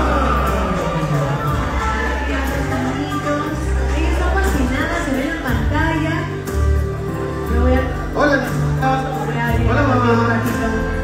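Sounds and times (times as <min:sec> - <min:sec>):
music with steady bass line: 0:00.0 - 0:11.0.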